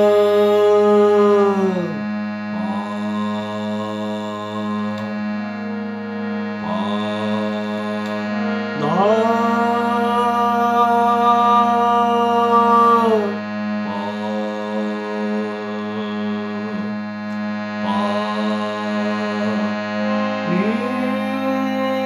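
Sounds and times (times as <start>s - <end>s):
harmonium drone: 0.0s - 22.0s
person singing long notes: 0.0s - 22.0s.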